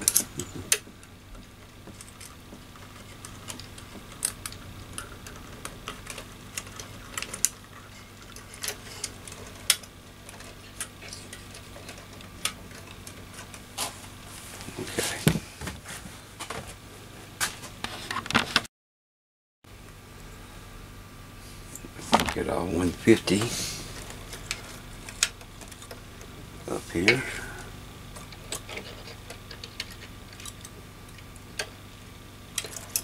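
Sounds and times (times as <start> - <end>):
faint steady hum: 0.0 - 18.6, 19.7 - 33.0.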